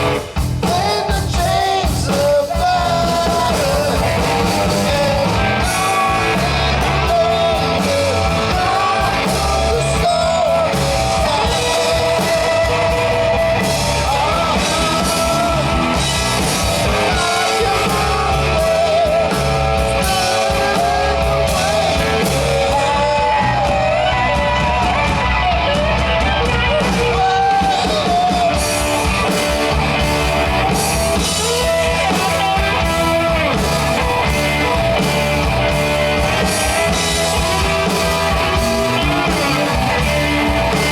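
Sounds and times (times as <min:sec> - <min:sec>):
person singing: 0:00.0 - 0:29.5, 0:30.4 - 0:40.9
electric guitar: 0:00.0 - 0:40.9
steady drum beat: 0:00.0 - 0:40.9.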